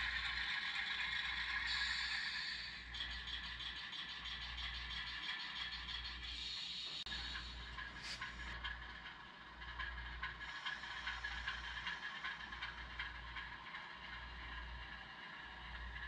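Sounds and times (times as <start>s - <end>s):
model train wheels clicking on rails: 0.0s - 16.0s.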